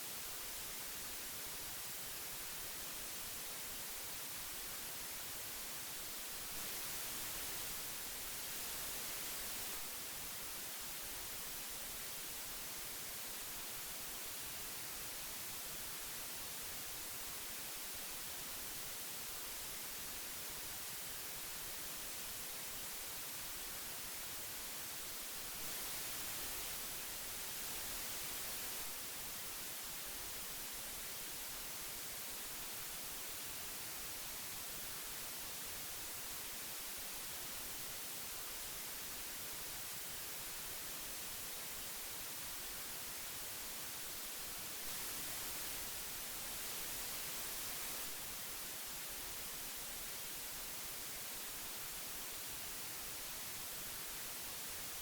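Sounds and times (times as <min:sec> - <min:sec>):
tape hiss: 0:00.0 - 0:55.0.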